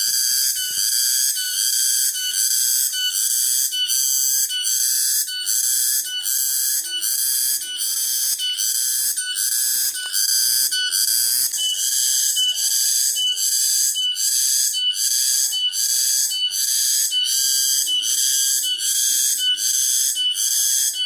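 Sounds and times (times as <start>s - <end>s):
cicada pulsing buzz: 0.0s - 21.0s.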